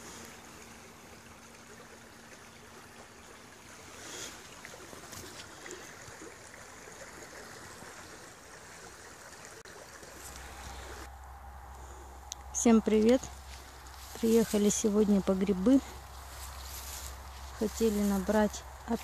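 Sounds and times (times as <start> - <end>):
river flowing over riffles: 0.0 - 19.0.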